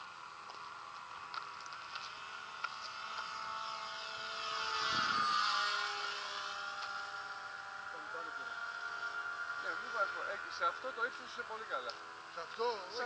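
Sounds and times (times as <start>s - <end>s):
model plane propeller whining: 0.0s - 13.0s.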